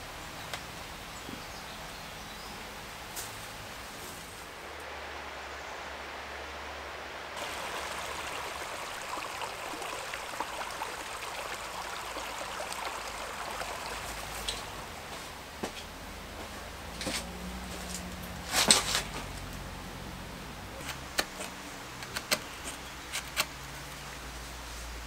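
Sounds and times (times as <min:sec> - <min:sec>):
stream running over stones: 0:00.0 - 0:25.0.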